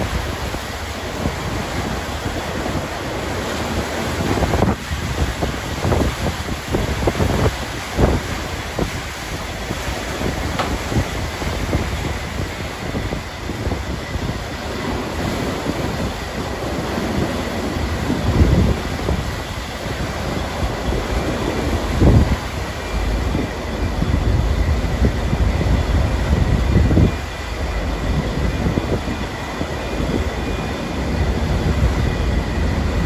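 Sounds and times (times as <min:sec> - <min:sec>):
water churning and rushing: 0:00.0 - 0:33.0.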